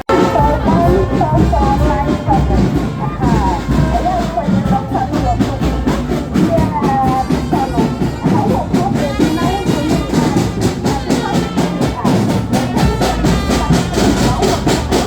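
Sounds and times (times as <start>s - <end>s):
music with drum beat: 0.0s - 15.0s
voices: 0.0s - 15.0s.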